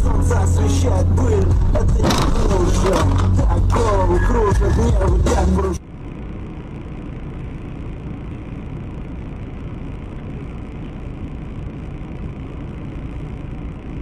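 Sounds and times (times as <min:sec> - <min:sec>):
car engine and tyre drone: 0:00.0 - 0:14.0.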